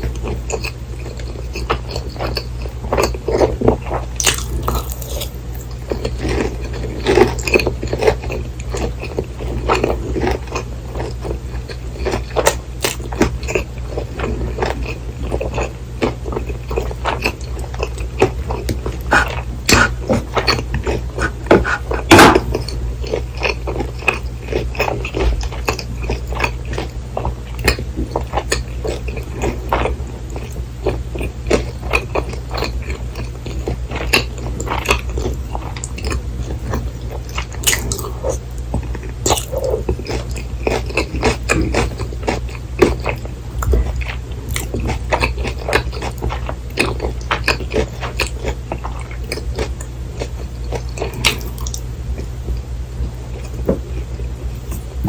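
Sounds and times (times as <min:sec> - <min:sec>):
crunchy chewing and biting: 0:00.0 - 0:55.0
steady low hum: 0:00.0 - 0:55.0.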